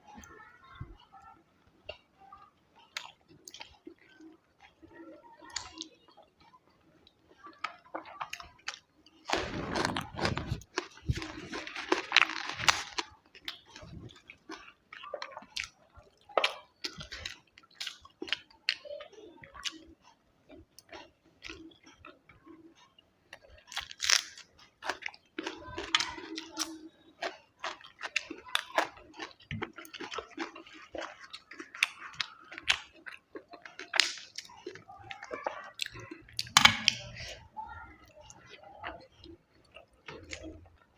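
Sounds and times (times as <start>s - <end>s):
chewing food crunches: 1.9s - 18.9s, 19.5s - 37.4s.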